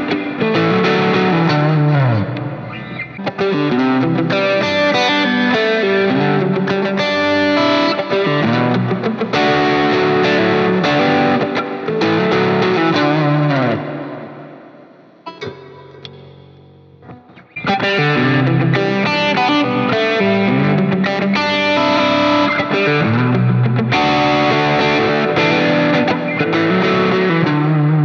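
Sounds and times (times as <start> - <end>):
distorted electric guitar melody: 0.0 - 28.0.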